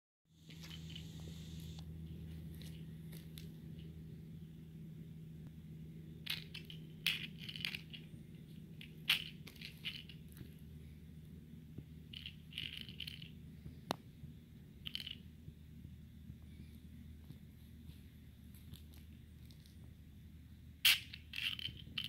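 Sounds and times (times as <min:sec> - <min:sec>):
steady low hum: 0:00.3 - 0:22.0.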